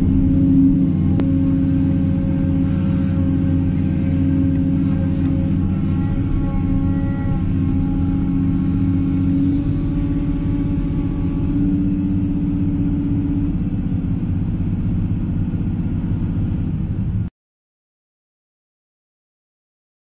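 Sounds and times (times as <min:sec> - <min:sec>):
excavator diesel engine rumbling: 0:00.0 - 0:17.3
higher droning tone: 0:00.0 - 0:17.3.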